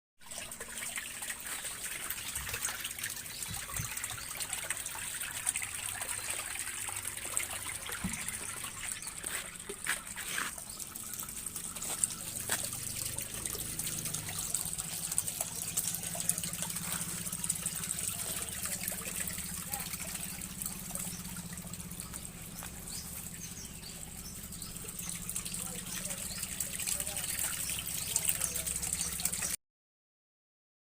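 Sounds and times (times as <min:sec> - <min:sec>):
water trickling and splashing: 0:00.2 - 0:29.6.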